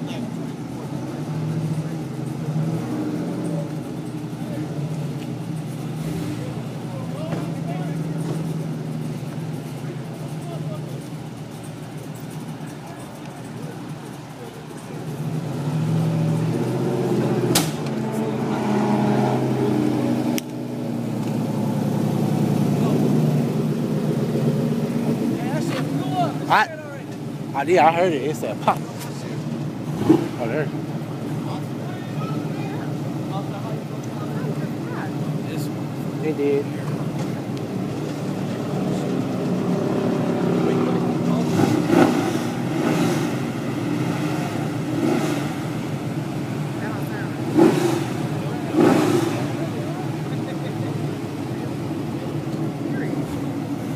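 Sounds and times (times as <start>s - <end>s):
road noise: 0.0s - 53.9s
vehicle engine running: 0.0s - 53.9s.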